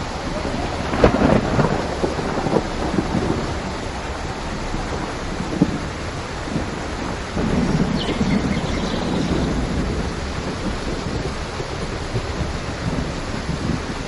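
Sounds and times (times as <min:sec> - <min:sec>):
steady rain: 0:00.0 - 0:14.0
thunder rumble: 0:00.0 - 0:14.0.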